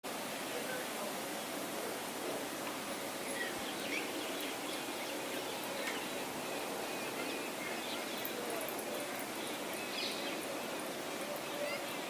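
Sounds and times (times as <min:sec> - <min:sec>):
steady background hiss: 0:00.1 - 0:12.0
small birds chirping: 0:00.6 - 0:12.0.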